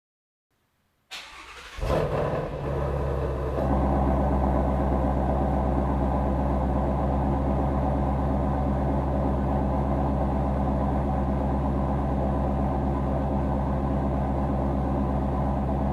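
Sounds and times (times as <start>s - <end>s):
car engine starting and idling: 1.1s - 15.9s.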